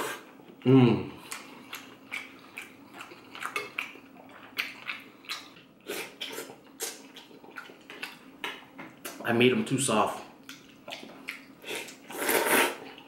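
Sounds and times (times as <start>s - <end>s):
slurping and chewing: 0.0s - 0.6s, 1.2s - 9.2s, 10.4s - 13.0s.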